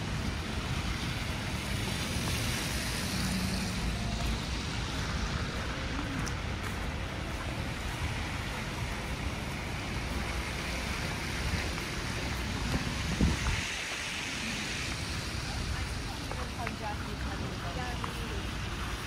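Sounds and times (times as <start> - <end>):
traffic noise: 0.0 - 19.0
wind: 0.0 - 19.0.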